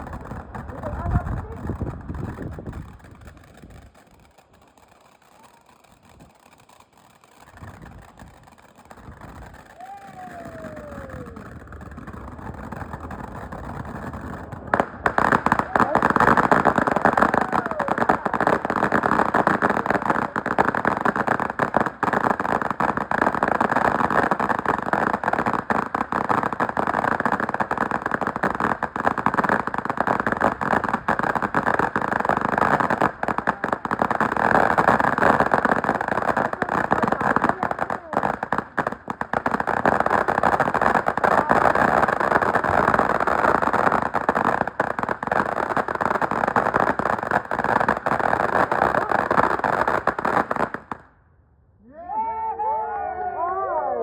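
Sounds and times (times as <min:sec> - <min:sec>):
fireworks crackling and banging: 0:00.0 - 0:51.2.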